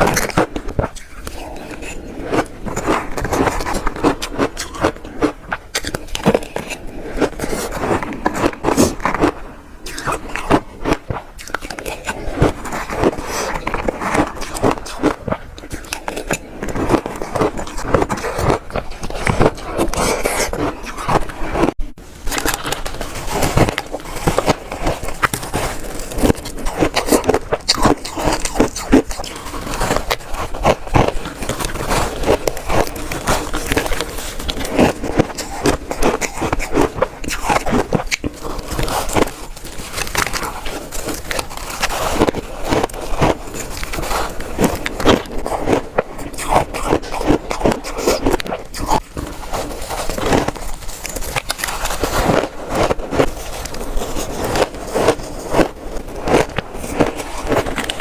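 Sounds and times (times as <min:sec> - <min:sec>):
ice being crunched: 0:00.0 - 0:58.0.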